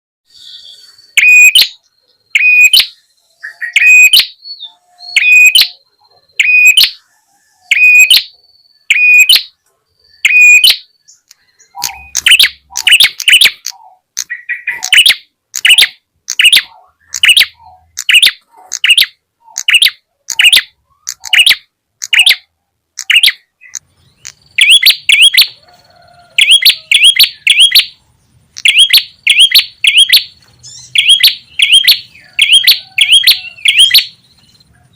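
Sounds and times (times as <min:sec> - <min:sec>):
songbird sharp calls: 0:00.3 - 0:34.9.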